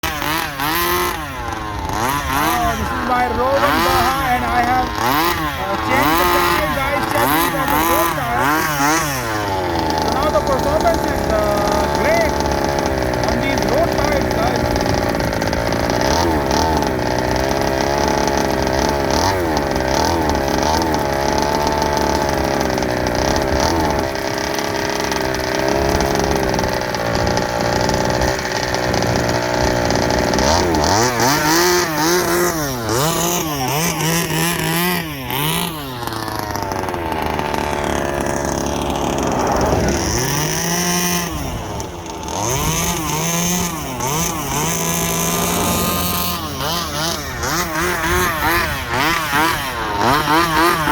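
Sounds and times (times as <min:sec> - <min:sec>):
rc car two-stroke engine revving: 0:00.0 - 0:50.9.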